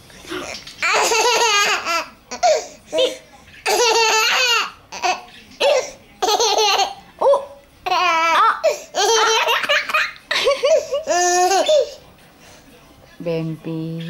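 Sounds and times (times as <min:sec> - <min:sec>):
baby laughing: 0:00.3 - 0:12.0.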